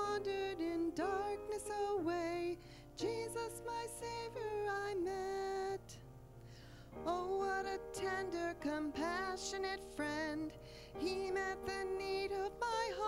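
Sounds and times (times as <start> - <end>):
woman singing a hymn: 0.0 - 6.0, 7.0 - 13.0
keyboard accompaniment: 0.0 - 13.0.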